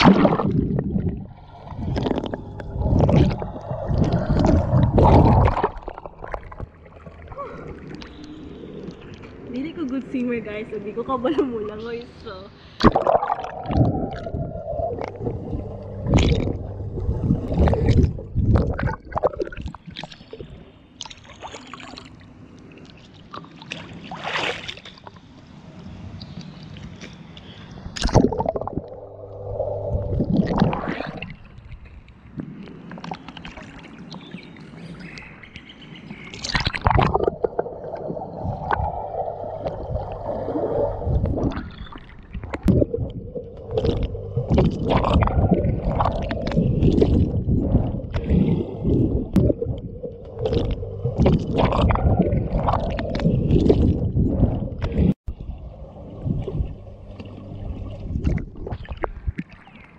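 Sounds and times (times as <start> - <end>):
pool water sloshing and gurgling: 0.0 - 59.9
water splashes: 0.0 - 59.9.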